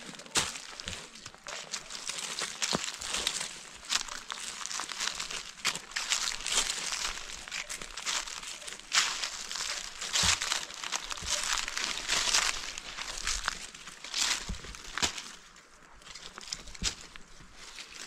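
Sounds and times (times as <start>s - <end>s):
footsteps on dry leaves: 0.0s - 18.0s.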